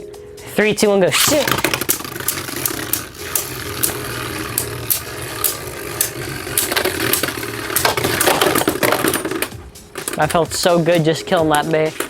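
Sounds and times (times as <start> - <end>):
spinning tops whirring: 1.1 - 10.9
spinning tops clacking: 1.2 - 12.0.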